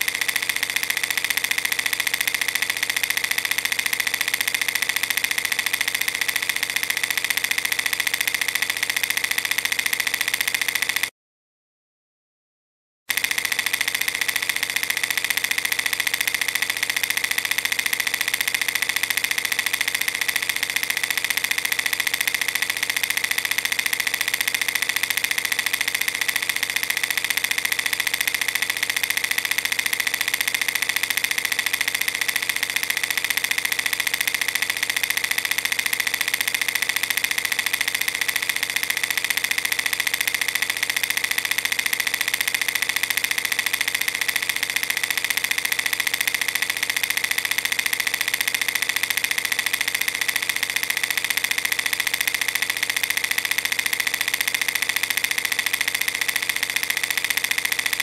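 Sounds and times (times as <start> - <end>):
film projector rattling: 0.0 - 11.1, 13.1 - 58.0.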